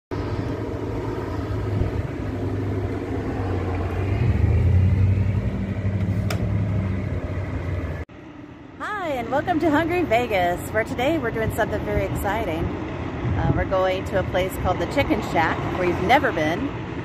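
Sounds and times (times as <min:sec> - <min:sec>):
vehicle engine rumbling: 0:00.1 - 0:17.0.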